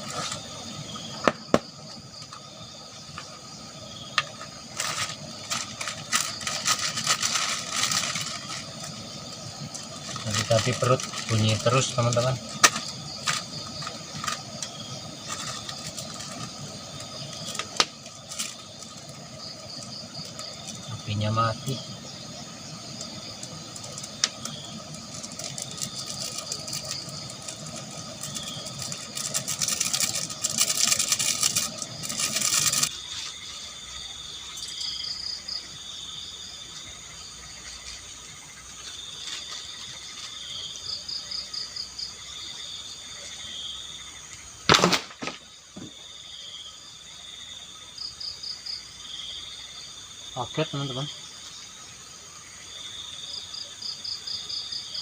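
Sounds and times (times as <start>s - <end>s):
crickets chirping: 0.0s - 55.0s
steady hiss: 0.0s - 55.0s.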